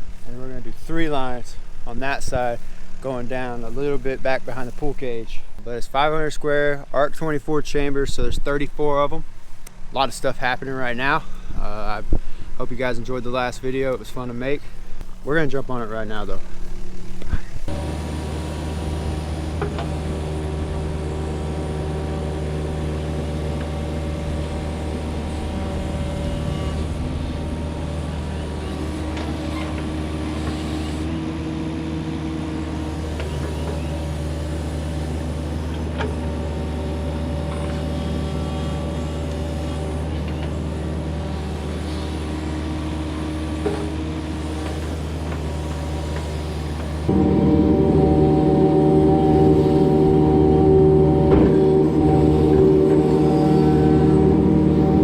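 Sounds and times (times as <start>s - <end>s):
diesel engine running: 7.3s - 55.0s.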